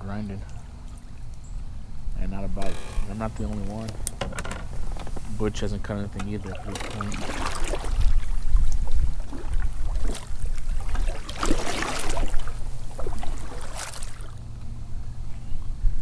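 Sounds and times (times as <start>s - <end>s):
water splashing around a kayak: 0.0s - 14.6s
wind rumble on microphone: 0.0s - 16.0s.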